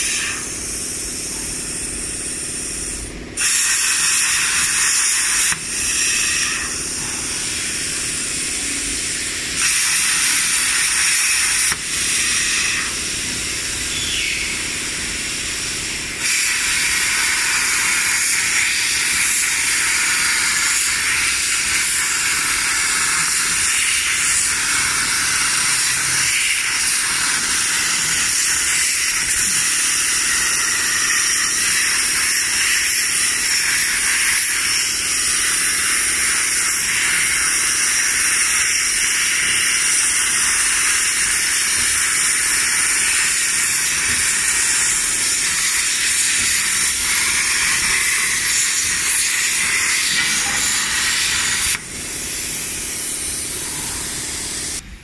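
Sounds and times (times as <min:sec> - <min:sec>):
plasma torch hissing: 0:00.0 - 0:54.9.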